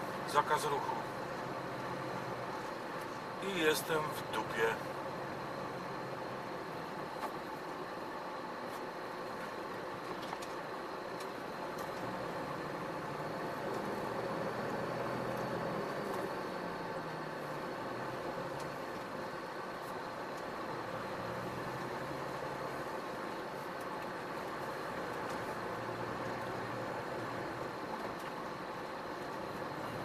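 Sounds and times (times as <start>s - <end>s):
truck diesel engine idling: 0.0s - 30.0s.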